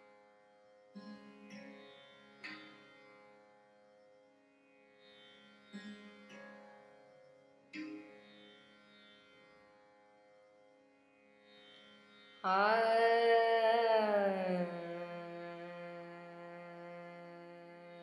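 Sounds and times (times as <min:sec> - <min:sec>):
tanpura drone: 0:00.0 - 0:18.0.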